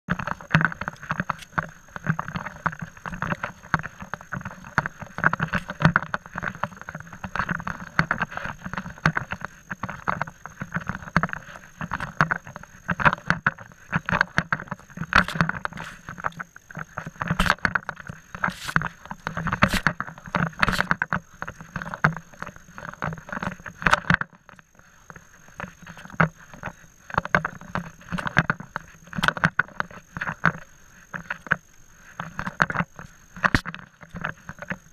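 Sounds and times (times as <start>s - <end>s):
body-worn camera knocking and rubbing: 0.1s - 34.9s.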